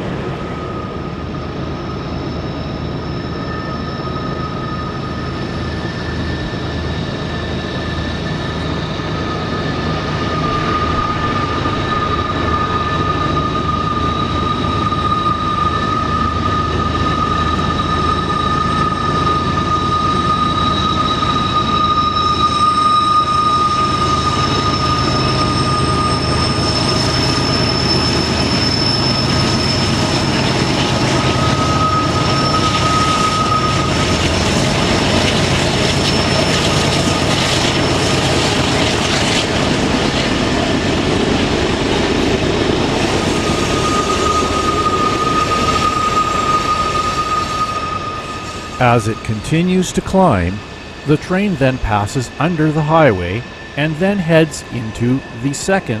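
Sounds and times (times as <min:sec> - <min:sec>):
train wheels squealing: 0:00.0 - 0:49.4, 0:50.3 - 0:51.1.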